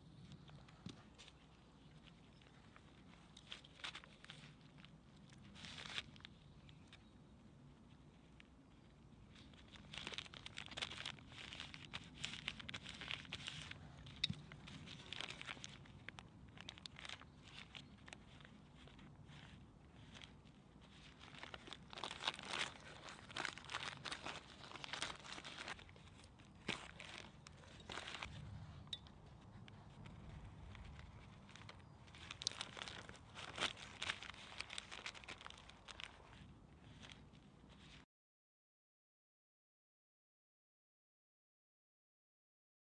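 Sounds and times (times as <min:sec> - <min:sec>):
faint rustling and scraping: 0:00.0 - 0:38.1.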